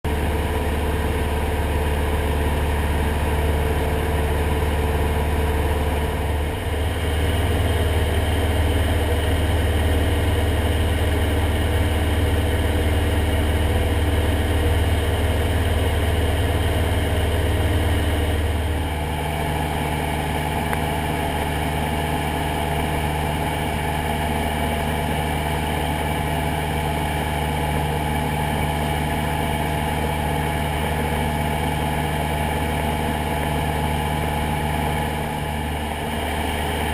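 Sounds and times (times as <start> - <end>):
light aircraft engine and propeller: 0.0 - 36.9.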